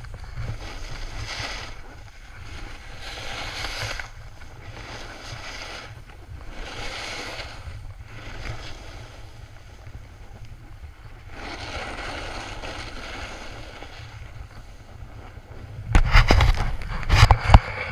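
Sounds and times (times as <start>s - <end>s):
snowboard carving over snow: 0.0s - 17.9s
wind buffeting microphone: 0.0s - 17.9s.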